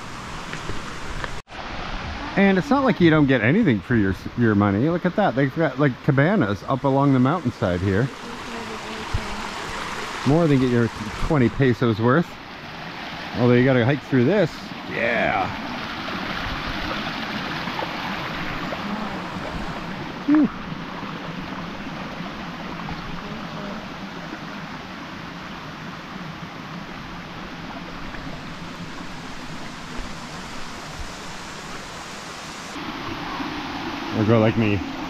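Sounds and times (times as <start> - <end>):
waterfall rushing water: 0.0 - 4.1, 4.9 - 35.0.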